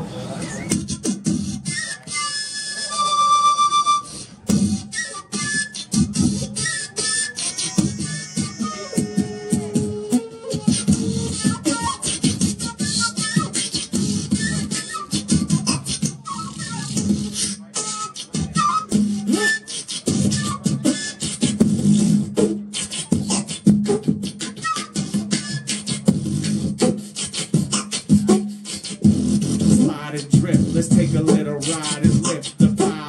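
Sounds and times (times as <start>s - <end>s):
beatboxing into a microphone: 0.2s - 33.0s
wooden flute notes: 0.3s - 30.0s.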